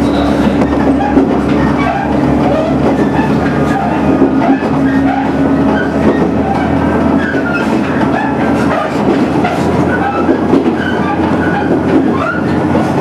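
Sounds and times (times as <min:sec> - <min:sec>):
diesel engine drone: 0:00.0 - 0:13.0
train wheels rolling on rails: 0:00.0 - 0:13.0.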